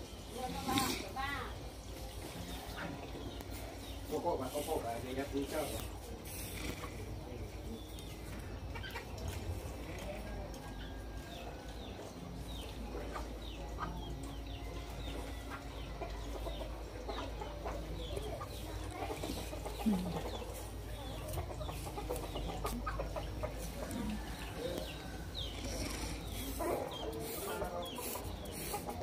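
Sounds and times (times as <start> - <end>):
chickens clucking: 0.2 - 29.0.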